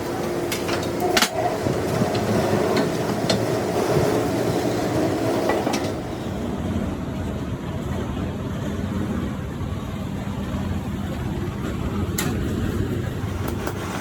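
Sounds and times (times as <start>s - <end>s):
machinery running: 0.0s - 14.0s.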